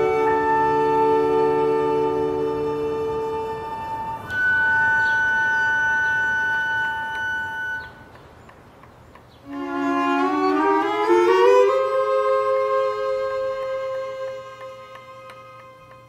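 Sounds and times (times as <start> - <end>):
instrumental film music: 0.0 - 16.0.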